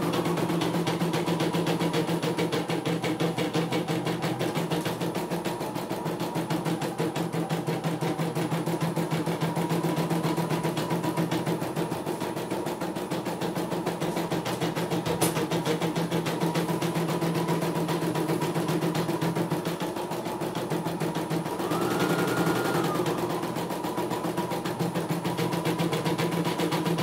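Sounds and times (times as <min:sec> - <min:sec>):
machine motor humming: 0:00.0 - 0:27.0.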